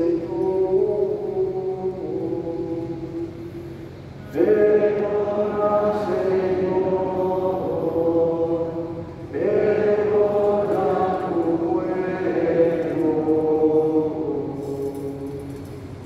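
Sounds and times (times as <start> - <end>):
slow liturgical chant: 0.0 - 16.0.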